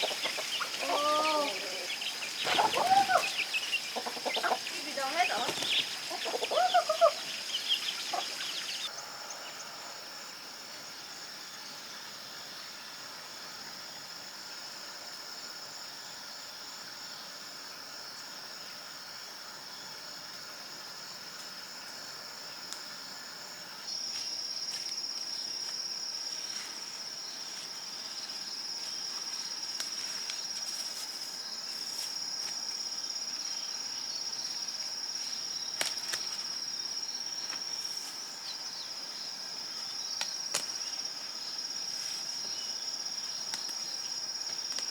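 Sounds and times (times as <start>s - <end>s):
insect chorus drone: 0.0s - 44.9s.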